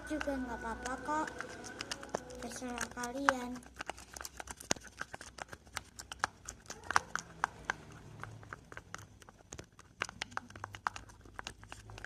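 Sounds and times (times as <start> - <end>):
stirrer tapping against container: 0.0 - 12.0.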